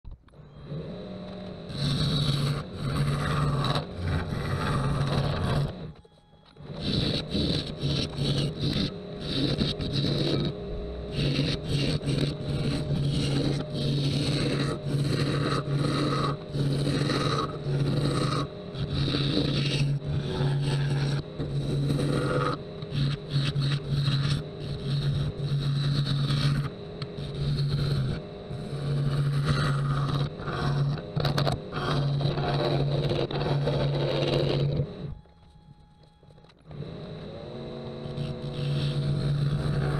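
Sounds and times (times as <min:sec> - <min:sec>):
lathe humming: 0:00.3 - 0:39.9
turning tool scraping wood: 0:01.1 - 0:35.2, 0:38.0 - 0:39.9.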